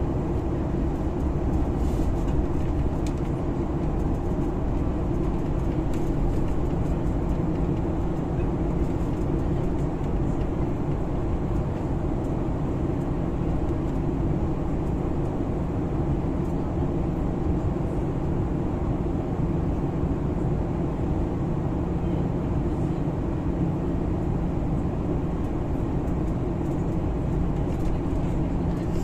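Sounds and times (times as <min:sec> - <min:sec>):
airliner cabin drone: 0:00.0 - 0:29.0.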